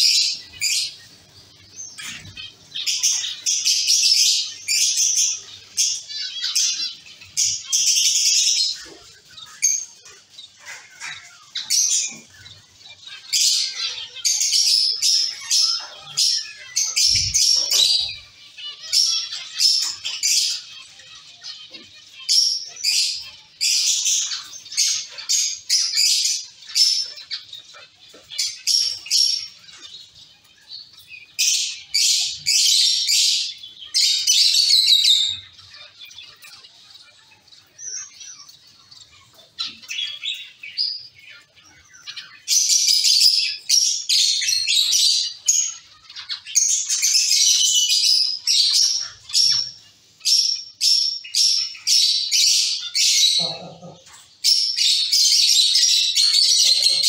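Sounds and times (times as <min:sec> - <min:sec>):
finches chirping: 0:00.0 - 0:57.0.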